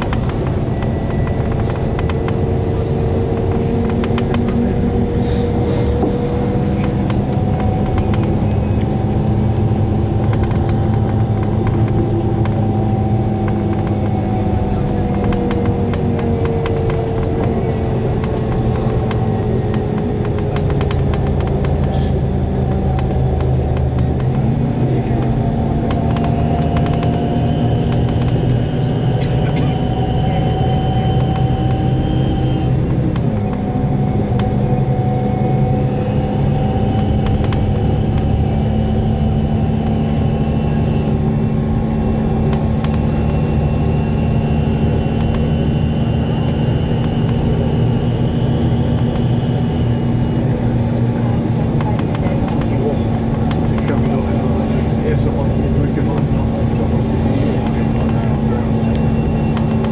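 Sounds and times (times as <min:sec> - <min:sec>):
bus engine droning: 0:00.0 - 0:59.9.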